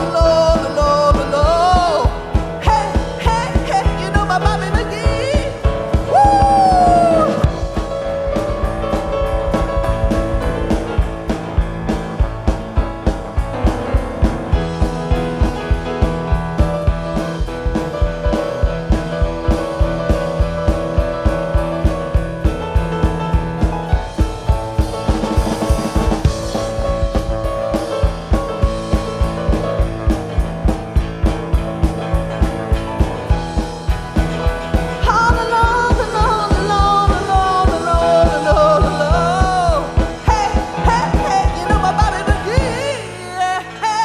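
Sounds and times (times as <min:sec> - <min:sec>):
drum kit driving beat: 0:00.0 - 0:43.4
bass and guitar: 0:00.0 - 0:44.0
high wavering lead guitar line: 0:00.0 - 0:44.0.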